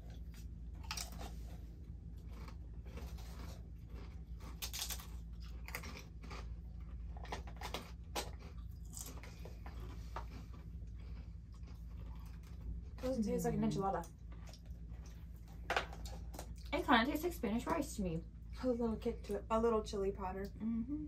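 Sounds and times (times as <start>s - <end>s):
crisps being chewed: 0.0s - 16.9s.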